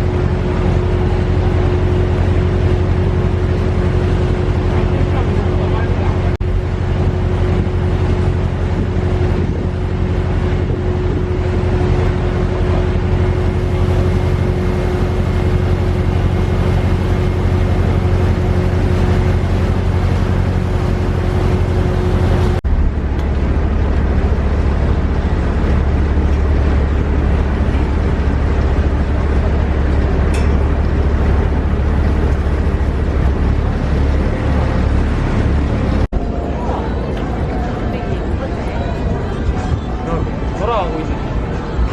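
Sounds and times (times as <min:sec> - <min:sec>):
vehicle motor rumbling: 0:00.0 - 0:41.9.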